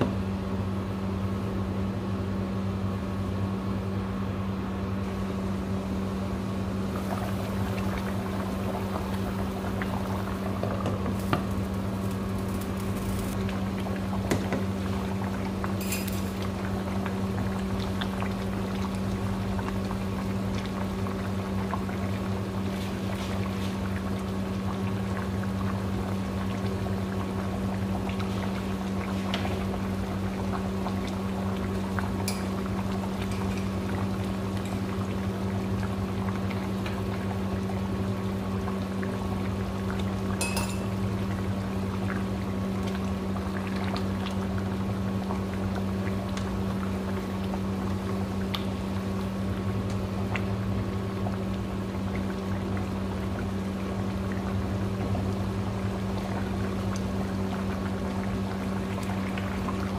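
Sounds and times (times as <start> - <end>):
constant low hum: 0.0 - 59.9
liquid bubbling in a pot: 0.0 - 59.9.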